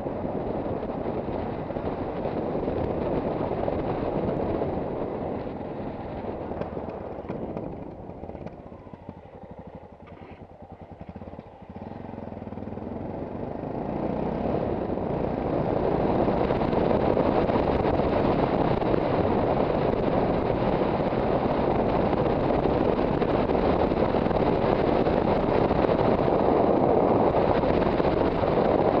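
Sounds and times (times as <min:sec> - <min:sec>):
wind noise on microphone: 0:00.0 - 0:11.4, 0:12.2 - 0:29.0
motorcycle engine running: 0:00.0 - 0:29.0.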